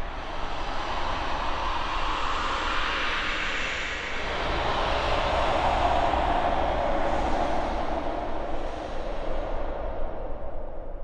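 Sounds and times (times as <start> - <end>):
howling blizzard wind: 0.0 - 11.0.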